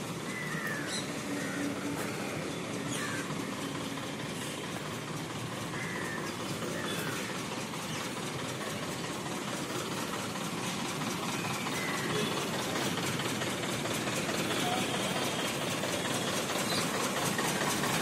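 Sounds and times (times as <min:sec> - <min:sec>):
diesel bus engine idling: 0:00.0 - 0:18.0.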